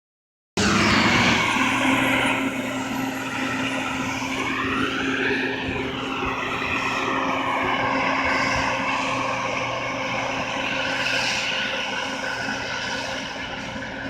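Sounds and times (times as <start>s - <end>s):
machine drone: 0.6s - 14.0s.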